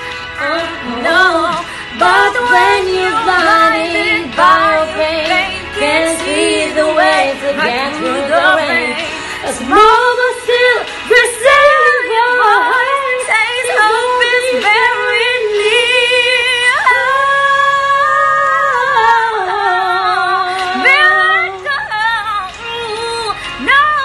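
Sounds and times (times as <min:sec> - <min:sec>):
women singing a duet: 0:00.4 - 0:24.0.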